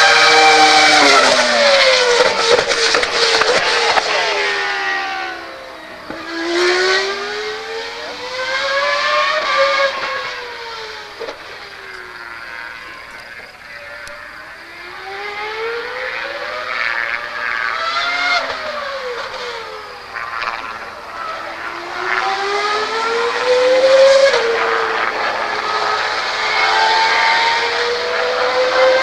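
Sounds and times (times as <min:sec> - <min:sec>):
racing car engine revving: 0:00.0 - 0:29.0.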